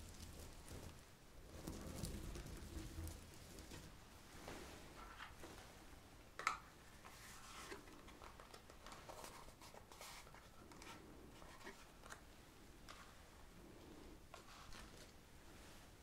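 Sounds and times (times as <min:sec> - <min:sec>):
soft taps and rustles: 0:00.0 - 0:13.2.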